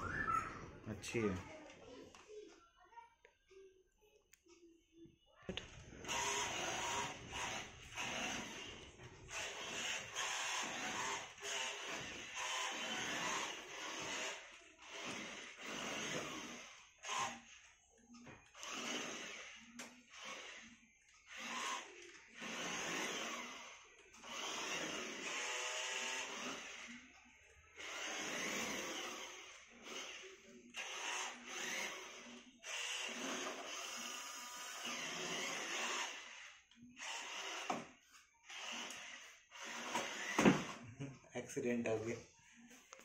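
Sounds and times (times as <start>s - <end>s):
toy car electric motor whirring: 5.5s - 40.8s.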